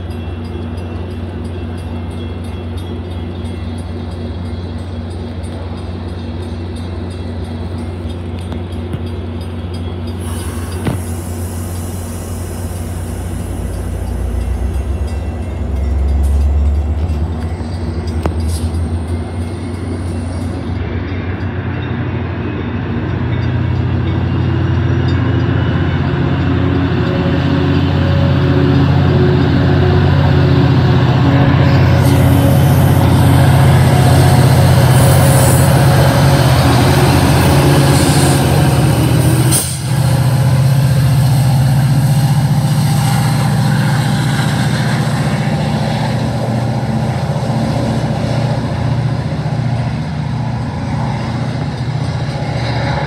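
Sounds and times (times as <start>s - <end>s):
diesel train engine drone: 0.0s - 53.0s.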